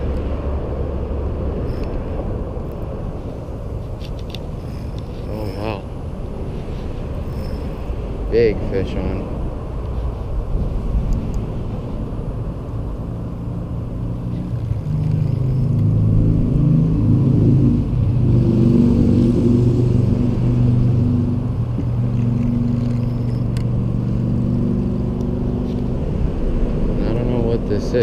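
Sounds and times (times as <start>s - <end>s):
vehicle engine humming: 0.0s - 28.0s
wind rumble on microphone: 0.0s - 28.0s.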